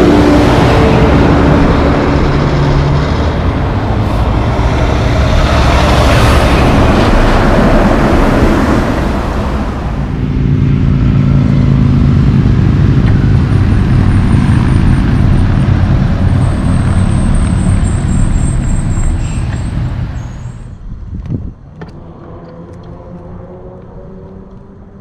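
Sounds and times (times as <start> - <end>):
truck passing with tyre noise: 0.0 - 21.1
low diesel engine drone: 0.0 - 25.0.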